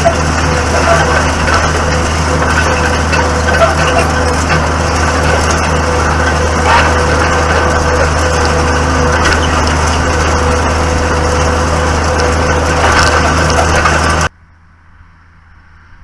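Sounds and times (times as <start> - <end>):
tractor engine drone: 0.0 - 16.0.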